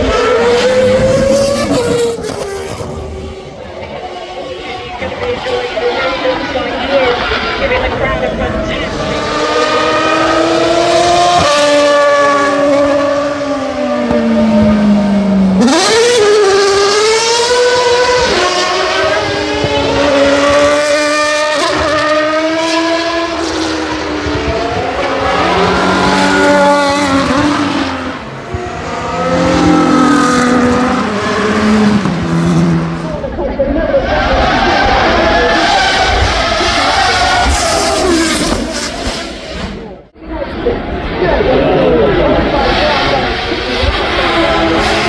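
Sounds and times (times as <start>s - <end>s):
racing car engines at high revs: 0.0s - 45.0s.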